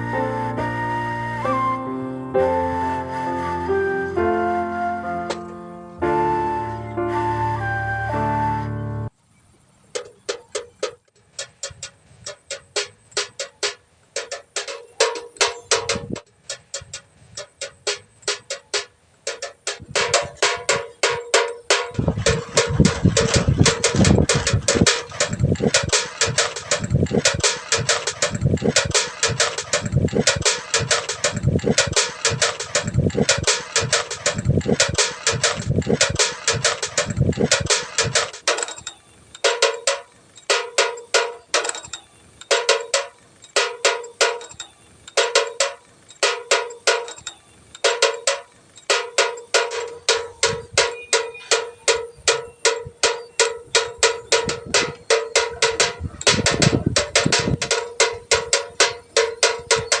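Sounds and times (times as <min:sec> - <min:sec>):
windmill clappers clanking: 0:10.0 - 1:00.0.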